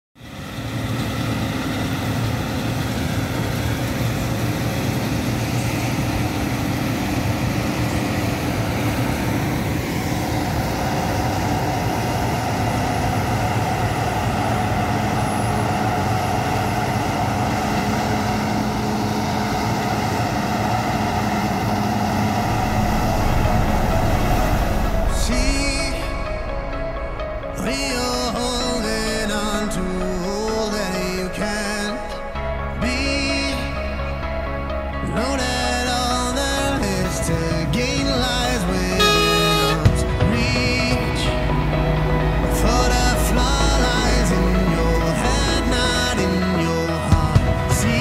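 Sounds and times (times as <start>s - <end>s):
combine harvester droning: 0.2s - 48.0s.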